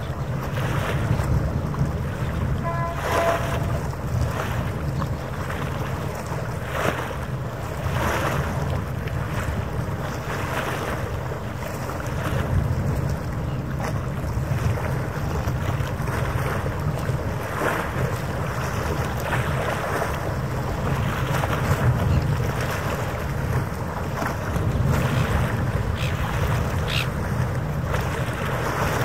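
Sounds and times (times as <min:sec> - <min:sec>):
harbour water washing: 0:00.0 - 0:29.0
wind buffeting microphone: 0:00.0 - 0:29.0.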